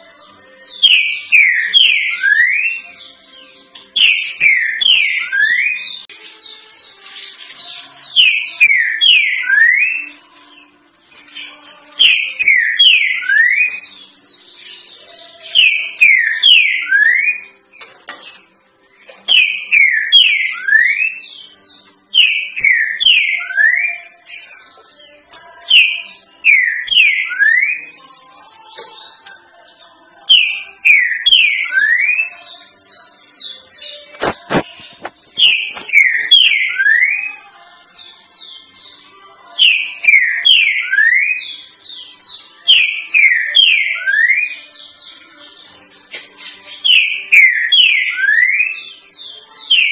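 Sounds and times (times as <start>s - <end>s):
bird whistled song: 0.0s - 6.5s, 7.4s - 10.6s, 11.4s - 17.6s, 19.3s - 28.1s, 30.2s - 39.0s, 39.6s - 49.9s.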